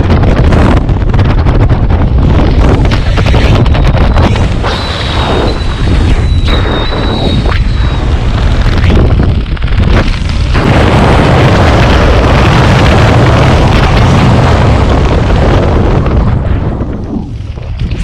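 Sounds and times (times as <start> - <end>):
wind blasting across microphone: 0.0 - 18.0.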